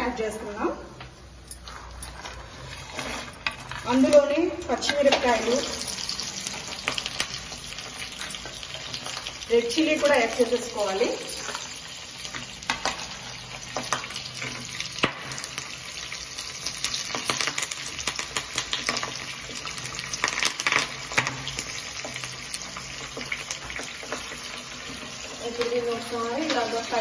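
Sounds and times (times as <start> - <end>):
hot oil sizzling and popping: 1.8 - 27.0.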